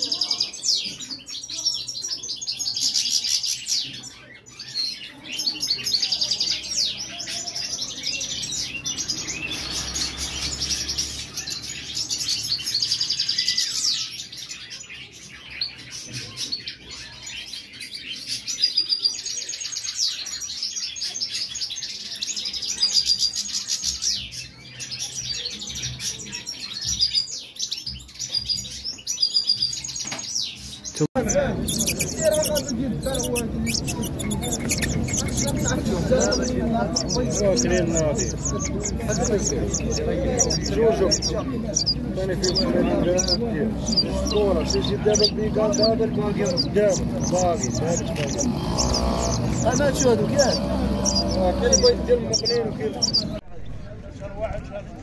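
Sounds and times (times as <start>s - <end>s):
bird twittering and trilling: 0.0s - 53.9s.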